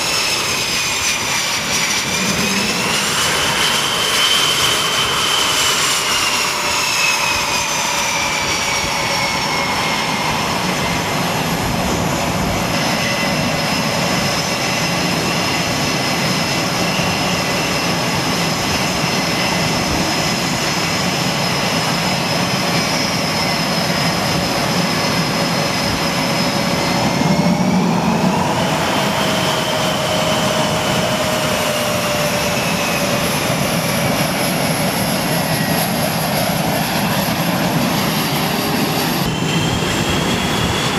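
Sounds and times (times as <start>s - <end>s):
jet engines rushing and whining: 0.0s - 40.9s.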